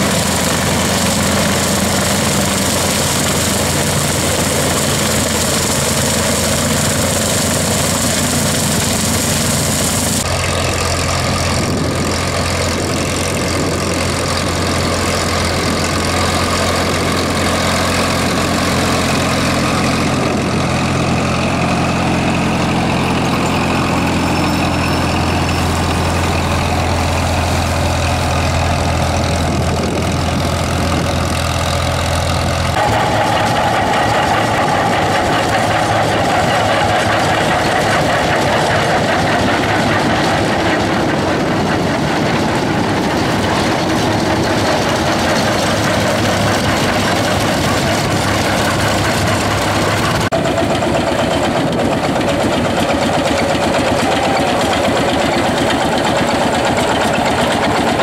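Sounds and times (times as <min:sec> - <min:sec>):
old tractor plowing: 0:00.0 - 0:58.0
tractor engine running: 0:00.0 - 0:58.0.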